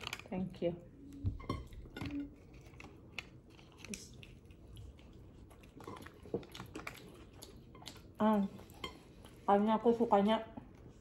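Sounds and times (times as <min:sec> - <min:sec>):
quiet chewing: 0:01.1 - 0:11.0.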